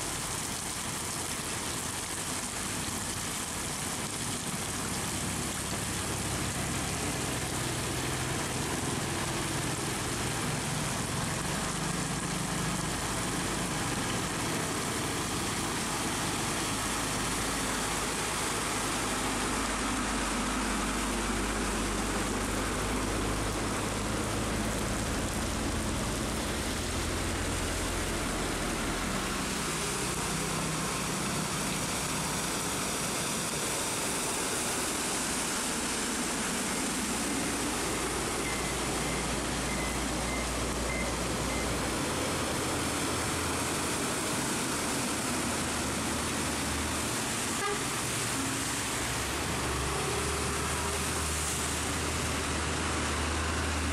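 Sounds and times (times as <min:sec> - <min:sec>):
heavy rain: 0:00.0 - 0:53.9
trucks driving through floodwater: 0:00.0 - 0:53.9.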